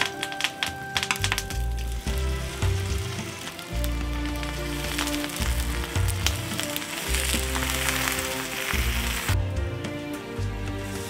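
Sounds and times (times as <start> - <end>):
food sizzling on a hot pan: 0.0 - 9.4, 10.8 - 11.0
background music with low bass: 0.0 - 11.0.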